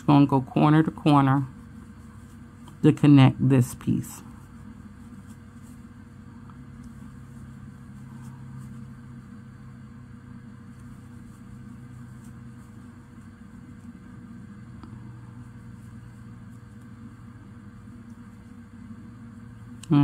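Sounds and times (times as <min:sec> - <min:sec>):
appliance hum with faint tone: 0:00.0 - 0:20.0.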